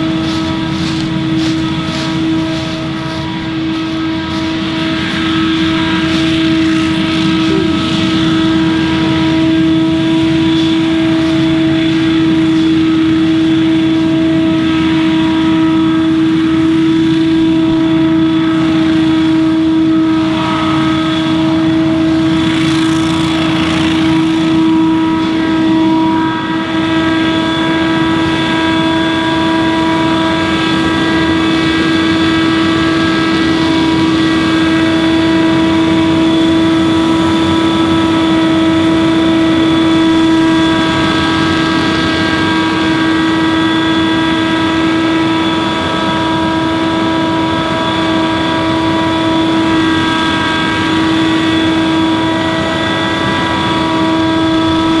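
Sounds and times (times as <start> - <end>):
leaf blower running: 0.0 - 55.0.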